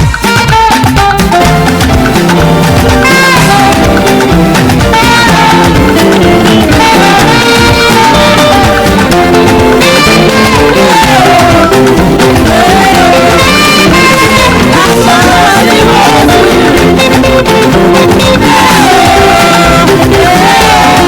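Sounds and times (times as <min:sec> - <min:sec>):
full band backing: 0:00.0 - 0:21.0
saxophone melody: 0:00.0 - 0:21.0.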